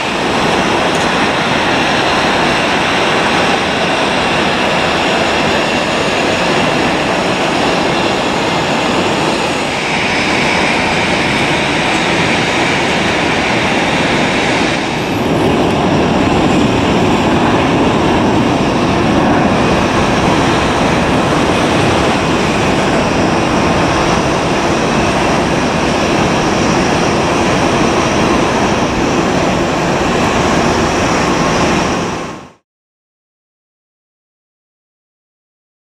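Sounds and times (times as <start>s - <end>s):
jet engine roar: 0.0s - 32.6s.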